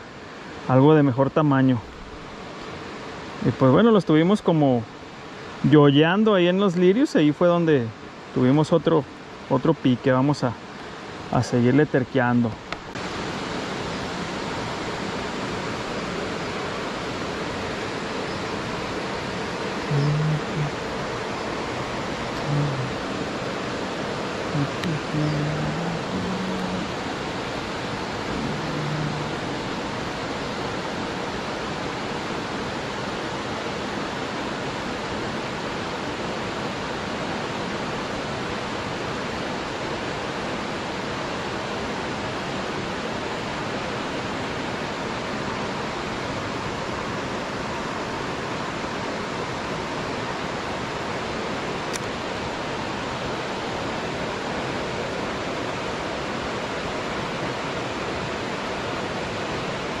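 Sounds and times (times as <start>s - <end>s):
water rushing: 0.0s - 60.0s.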